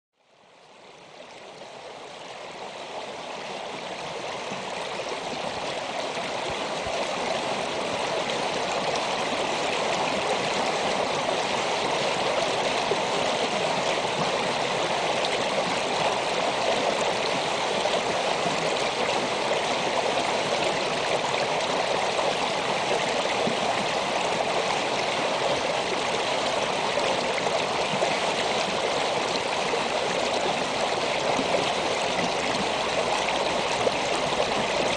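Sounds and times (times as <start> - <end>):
creek flowing around rocks: 0.2 - 34.9.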